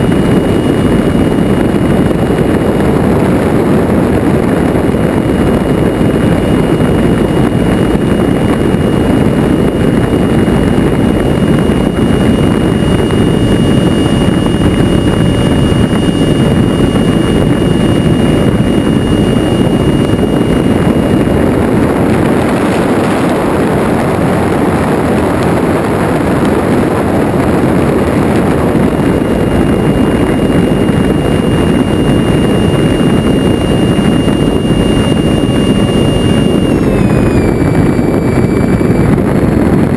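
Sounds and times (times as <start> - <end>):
ducted fan rushing: 0.0 - 39.9
faint high whine: 0.0 - 39.9
wind buffeting camera: 0.0 - 39.9.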